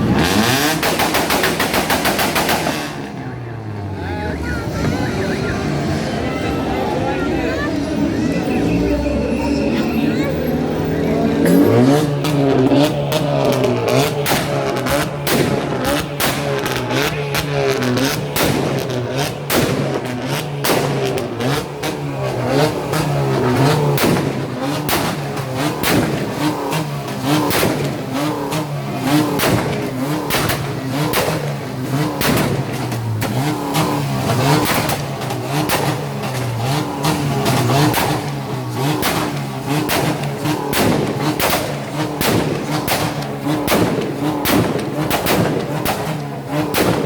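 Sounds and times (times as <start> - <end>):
exhaust backfire bangs and pops: 0.0 - 3.4, 11.5 - 47.0
car engines revving: 0.0 - 47.0.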